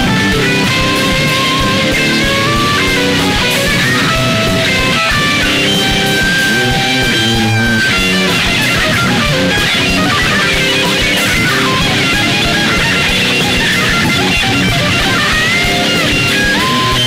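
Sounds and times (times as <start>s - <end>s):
drums: 0.0s - 17.0s
electric guitar lead melody: 0.0s - 17.0s.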